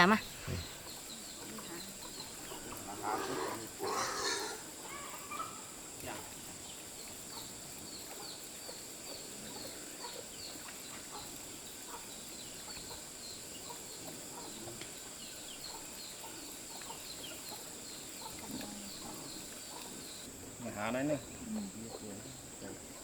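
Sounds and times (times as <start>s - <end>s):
chickens clucking: 0.0s - 20.4s
high insect drone: 0.0s - 23.0s.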